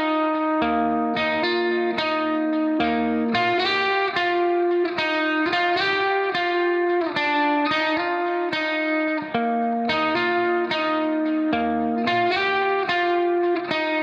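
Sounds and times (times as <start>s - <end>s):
plucked guitar melody: 0.0s - 14.0s.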